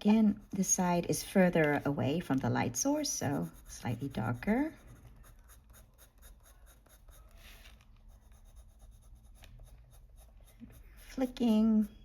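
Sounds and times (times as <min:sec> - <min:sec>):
colored pencil scratching on paper: 0:00.0 - 0:12.0.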